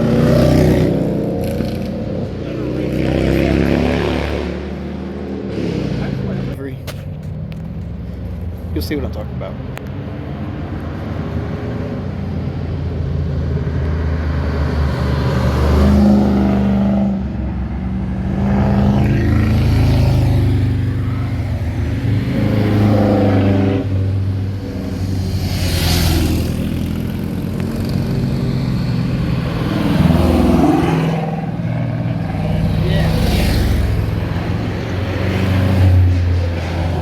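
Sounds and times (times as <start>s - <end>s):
cars passing by revving: 0.0s - 37.0s.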